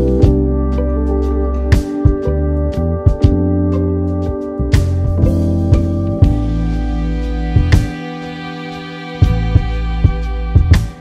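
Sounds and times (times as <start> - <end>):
sustained music chords: 0.0 - 11.0.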